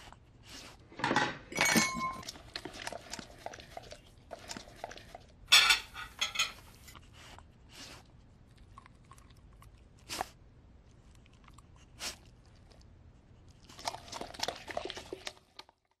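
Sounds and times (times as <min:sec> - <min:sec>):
dog crunching and chewing: 0:01.6 - 0:05.5, 0:06.6 - 0:16.0.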